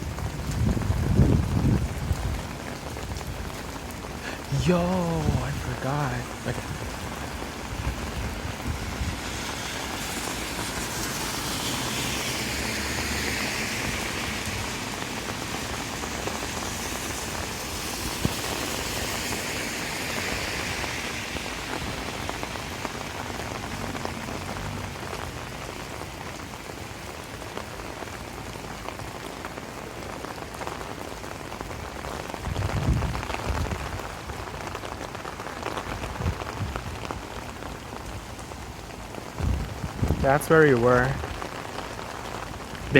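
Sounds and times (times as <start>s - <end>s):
rain on pavement: 0.0s - 42.9s.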